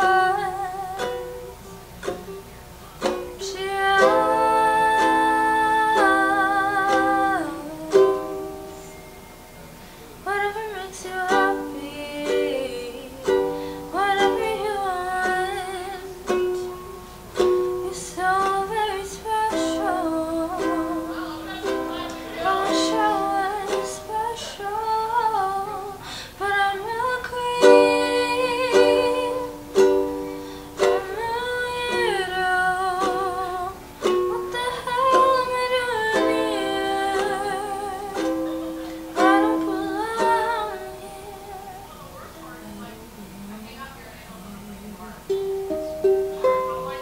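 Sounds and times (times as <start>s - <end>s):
ukulele strumming: 0.0s - 43.4s, 44.4s - 47.0s
girl singing slow song: 0.0s - 47.0s.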